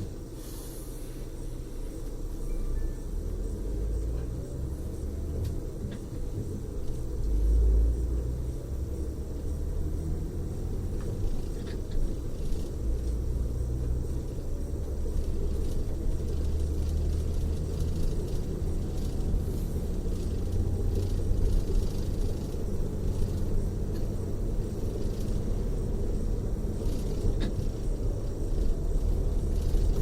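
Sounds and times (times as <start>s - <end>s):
faint rising whine: 0.0s - 30.0s
low engine and road rumble: 0.0s - 30.0s.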